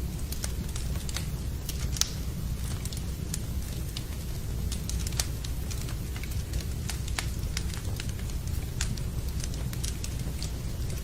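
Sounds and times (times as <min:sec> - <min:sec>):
rain: 0:00.0 - 0:11.0
wood fire crackling: 0:00.0 - 0:11.0.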